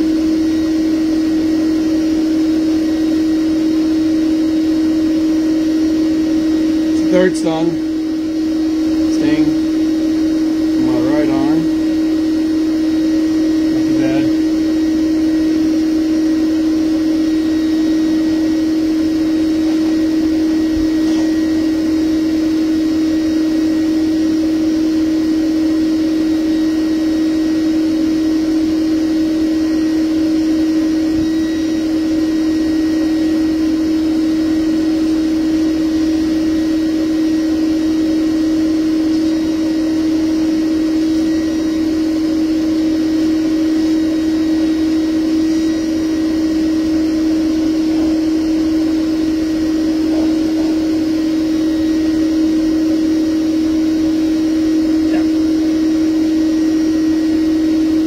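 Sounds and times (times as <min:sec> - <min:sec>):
vacuum humming: 0:00.0 - 0:58.0.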